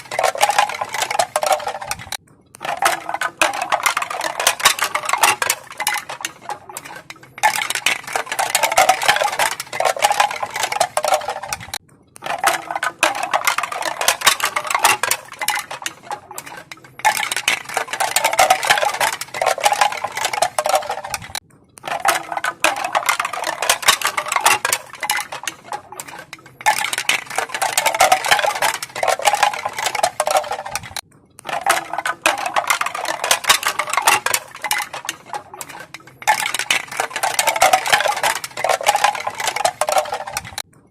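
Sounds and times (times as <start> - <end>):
bamboo pieces knocking together: 0.0 - 40.6.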